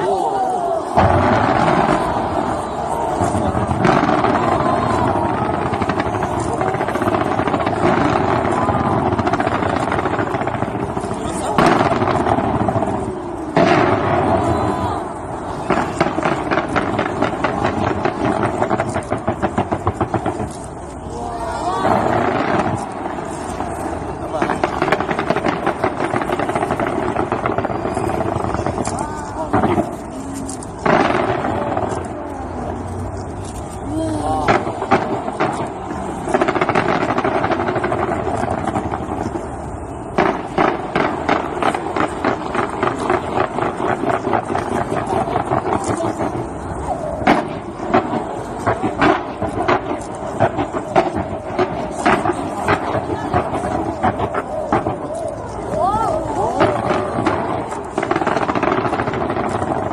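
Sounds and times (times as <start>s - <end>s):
fireworks popping: 0.0s - 59.9s.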